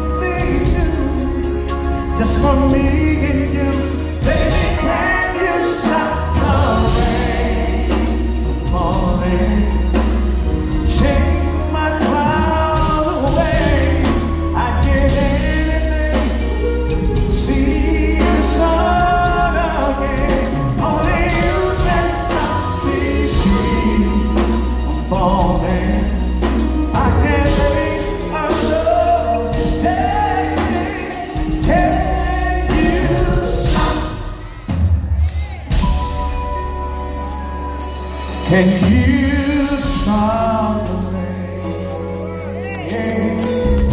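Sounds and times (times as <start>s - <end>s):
man singing: 0.0s - 34.6s, 38.2s - 43.9s
keyboards: 0.0s - 43.9s.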